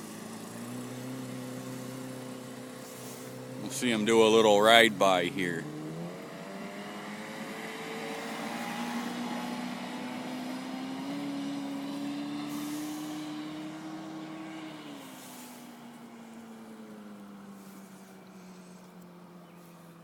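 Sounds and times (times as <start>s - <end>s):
outboard motor running: 0.0s - 6.2s, 7.0s - 20.0s.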